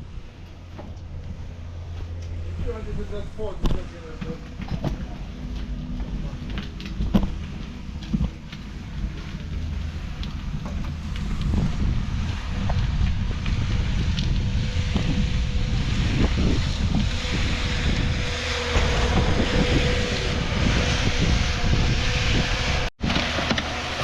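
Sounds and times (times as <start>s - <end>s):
wind buffeting microphone: 0.0s - 23.2s
engine rumbling: 0.0s - 24.0s.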